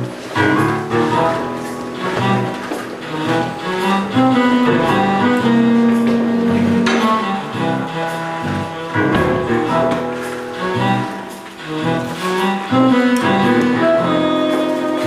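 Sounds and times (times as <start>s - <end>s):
instrumental music with held notes: 0.0s - 15.0s.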